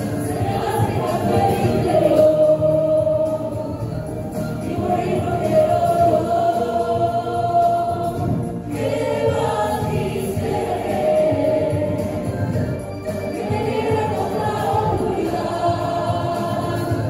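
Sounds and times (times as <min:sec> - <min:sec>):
backing track music: 0:00.0 - 0:17.0
voices singing together: 0:00.0 - 0:17.0.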